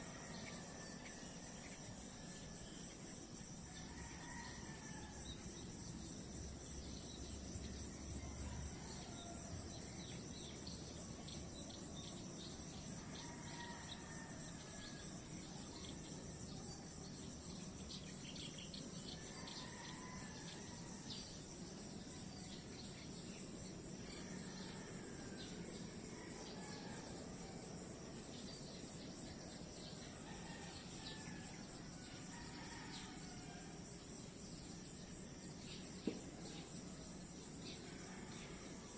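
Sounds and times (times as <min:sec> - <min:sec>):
high-pitched insect chorus: 0:00.0 - 0:38.9
short faint insect calls: 0:00.0 - 0:38.9.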